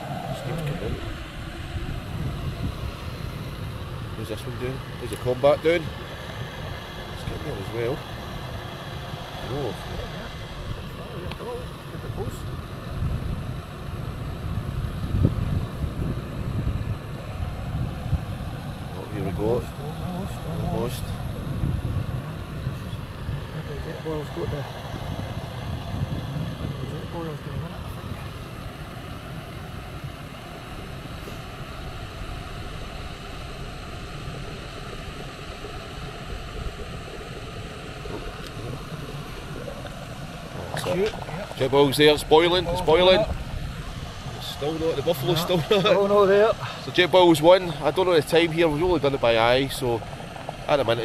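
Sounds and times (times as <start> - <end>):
camping stoves hissing: 0.0 - 51.0
wind buffeting microphone: 0.0 - 51.0.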